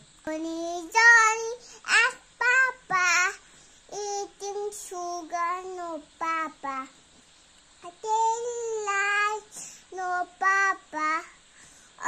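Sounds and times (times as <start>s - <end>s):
small boy singing: 0.2s - 7.0s, 7.8s - 11.4s.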